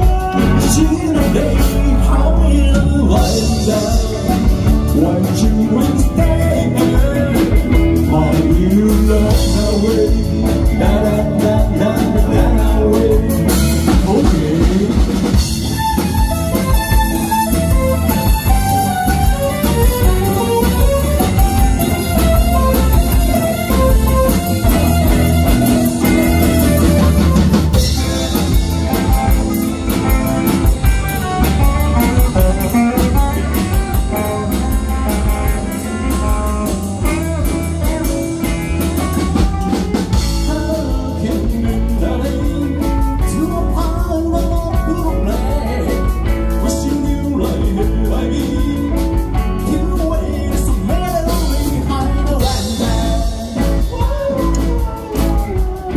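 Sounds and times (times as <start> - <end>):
drum kit: 0.0 - 55.9
electric guitar: 0.0 - 55.9
man singing: 0.0 - 55.9.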